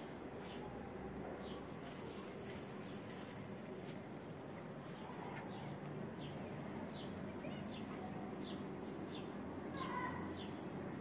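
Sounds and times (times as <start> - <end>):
bird chirping: 0.3 - 10.8.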